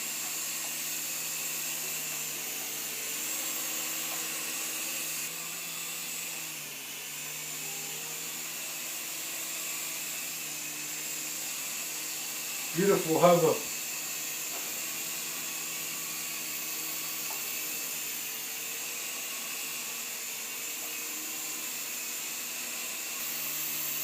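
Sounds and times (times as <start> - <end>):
toy helicopter whirring: 0.0 - 24.0.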